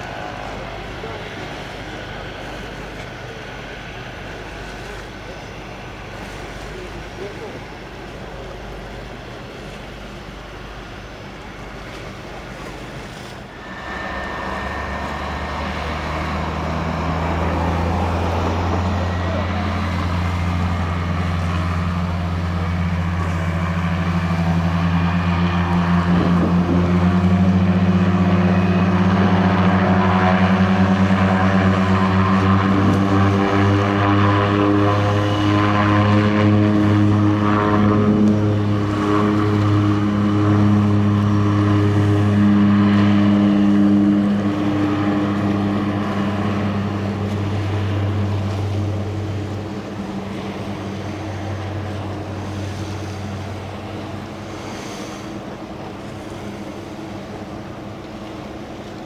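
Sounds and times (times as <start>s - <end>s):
turboprop engines and propellers: 0.0s - 59.0s.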